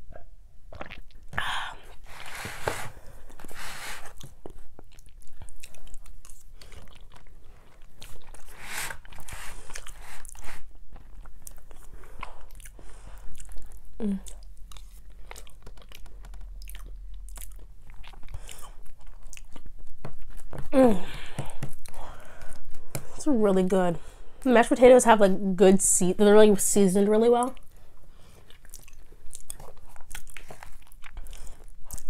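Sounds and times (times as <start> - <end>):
person chewing food: 0.0 - 23.2, 27.6 - 32.0.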